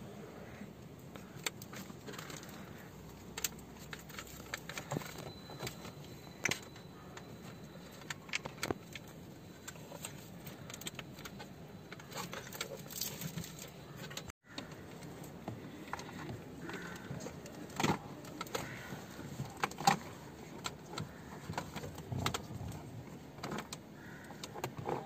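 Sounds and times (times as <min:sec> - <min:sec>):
plastic clicks and rattles: 0:01.1 - 0:25.0.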